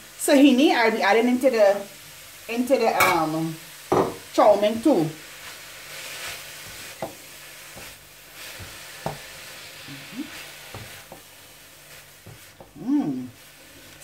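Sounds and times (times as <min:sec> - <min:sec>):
frying sizzle: 0:00.0 - 0:14.0
utensil stirring noodles in a pan: 0:00.0 - 0:14.0.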